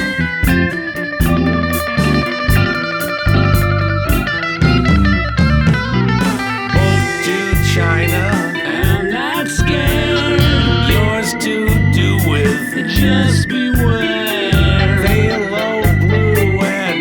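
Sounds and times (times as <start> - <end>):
bass guitar: 0.0 - 17.0
electric guitar lead notes: 0.0 - 17.0
steady drum beat: 0.0 - 17.0.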